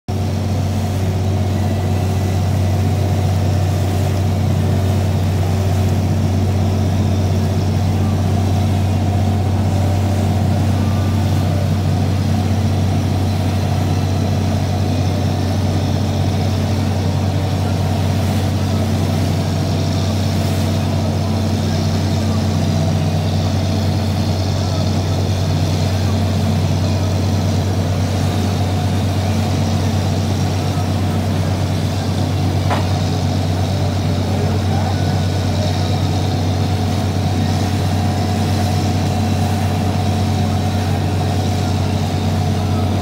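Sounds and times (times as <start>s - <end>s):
boat engine droning: 0.1s - 43.0s
water rushing along hull: 0.1s - 43.0s.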